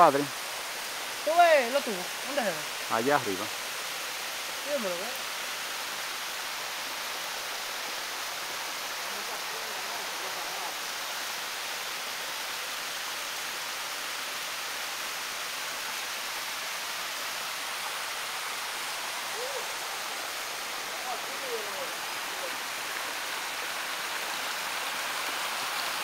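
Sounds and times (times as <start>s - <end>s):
small waterfall splashing into pool: 0.0s - 26.0s.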